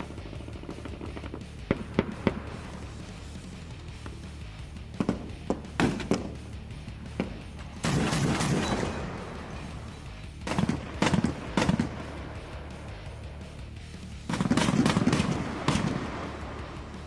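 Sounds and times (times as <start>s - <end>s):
cannon gunfire: 0.0s - 3.2s, 4.9s - 13.3s, 14.2s - 17.0s.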